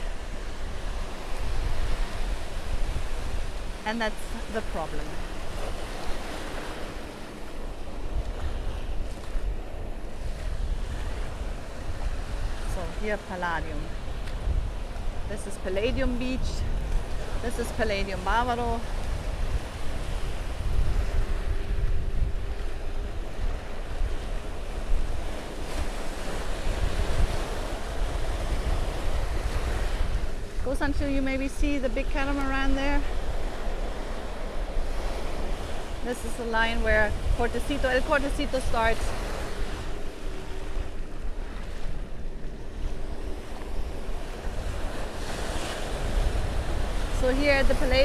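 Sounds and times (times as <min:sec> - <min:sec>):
ocean surf breaking: 0:00.0 - 0:48.0
wind buffeting microphone: 0:00.0 - 0:48.0.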